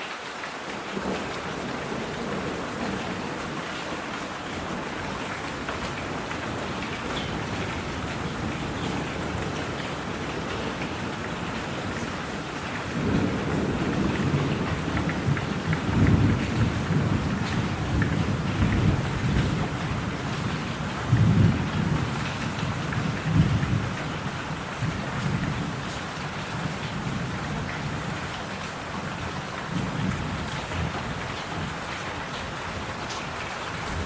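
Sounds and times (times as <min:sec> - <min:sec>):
rain hissing: 0:00.4 - 0:34.0
thunder rumbling: 0:01.0 - 0:31.9.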